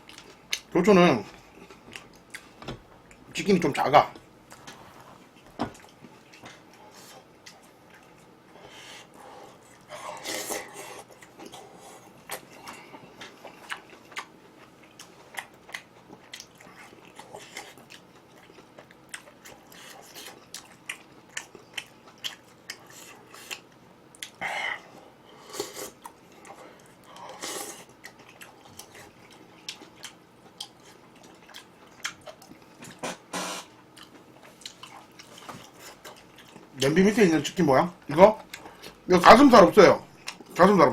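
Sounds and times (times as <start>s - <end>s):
person chewing crunchy food: 0.0s - 0.7s, 1.4s - 3.3s, 4.4s - 36.8s, 40.1s - 40.6s.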